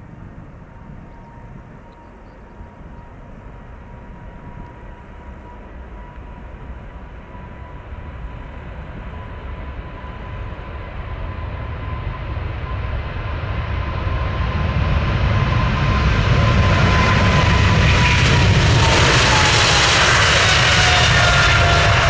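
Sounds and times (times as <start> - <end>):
jet airliner engine whine: 0.0 - 22.0.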